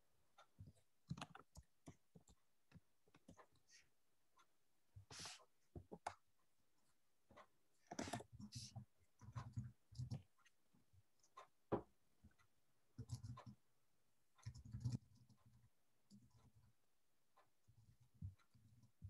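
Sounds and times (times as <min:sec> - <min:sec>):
faint clicks and taps: 0:00.3 - 0:13.7, 0:14.3 - 0:19.0.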